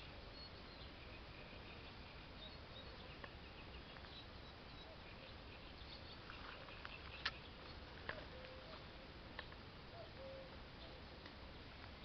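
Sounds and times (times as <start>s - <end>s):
faint bird chirps: 0.0s - 12.0s
steady low hiss: 0.0s - 12.0s.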